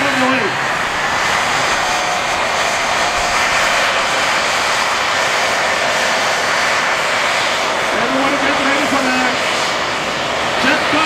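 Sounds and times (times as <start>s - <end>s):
jet engine running: 0.0s - 11.0s.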